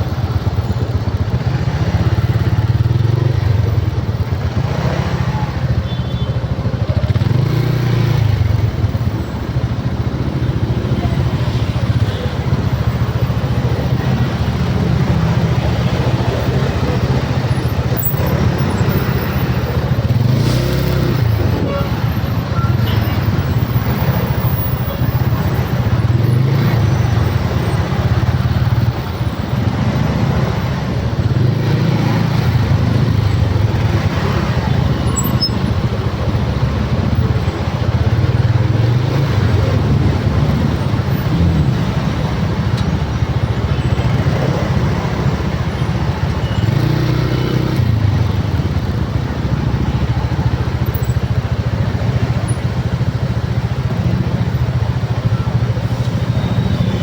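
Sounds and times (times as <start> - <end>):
road noise: 0.0 - 57.0
vehicle engine drone: 0.0 - 57.0.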